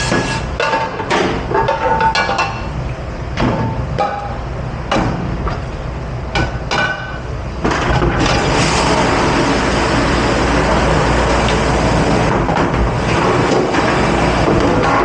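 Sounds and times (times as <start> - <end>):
low hum of kitchen machinery: 0.0 - 15.0.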